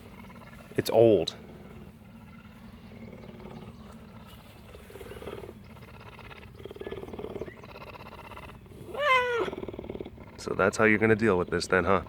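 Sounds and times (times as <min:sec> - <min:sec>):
cougar purring: 0:00.0 - 0:12.0.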